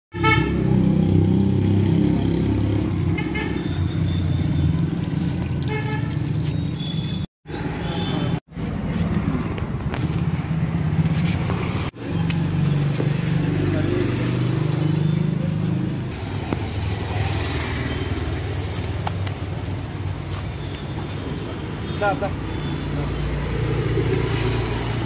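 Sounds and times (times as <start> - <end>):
traffic running: 0.2 - 25.0.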